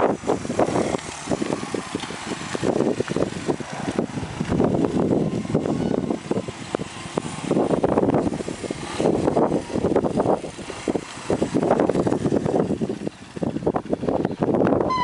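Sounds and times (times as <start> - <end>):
motorcycle engine running rough: 0.0 - 15.0.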